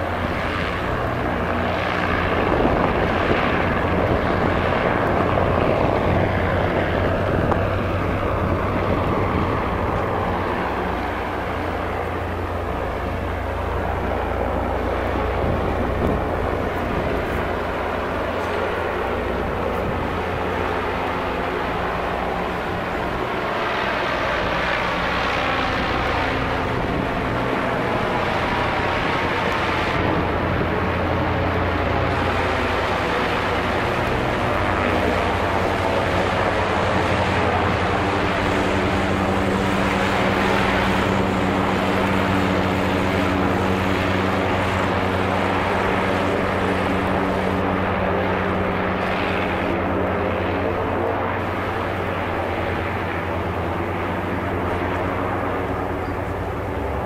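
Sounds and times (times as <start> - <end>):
airship engines humming: 0.0 - 57.0.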